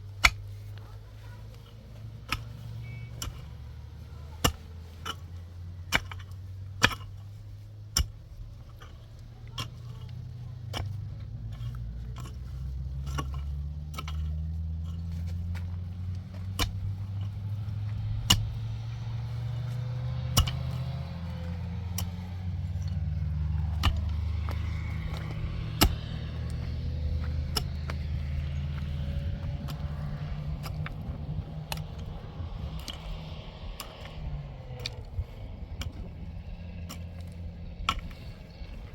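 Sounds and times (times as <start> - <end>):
vehicle engine rumbling: 0.0 - 38.9
sharp clicks and knocks: 4.4 - 38.9.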